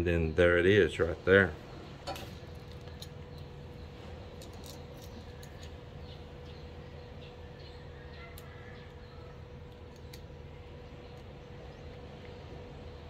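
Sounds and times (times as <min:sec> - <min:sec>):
faint steady whine: 0:00.0 - 0:13.0
steady low hum: 0:00.0 - 0:13.0.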